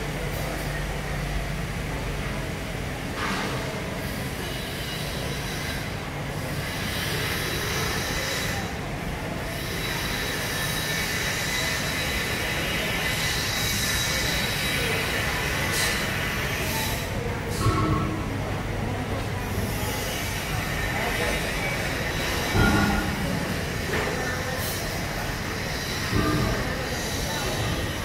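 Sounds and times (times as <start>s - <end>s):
ventilation fans droning: 0.0s - 28.0s.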